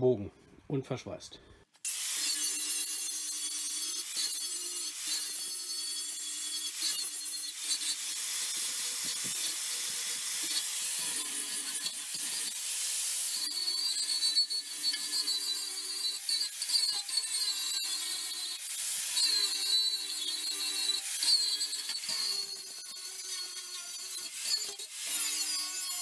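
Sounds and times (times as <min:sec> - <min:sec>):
angle grinder grinding metal: 0:01.8 - 0:26.0.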